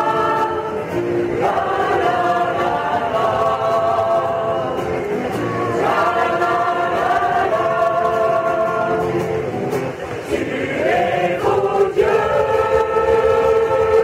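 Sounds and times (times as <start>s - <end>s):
mixed choir singing a ballad: 0.0s - 9.3s, 10.2s - 14.0s.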